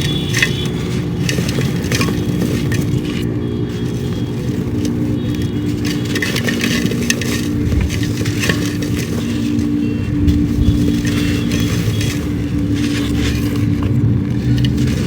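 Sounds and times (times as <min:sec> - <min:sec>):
charcoal crumbling crackles: 0:00.0 - 0:15.0.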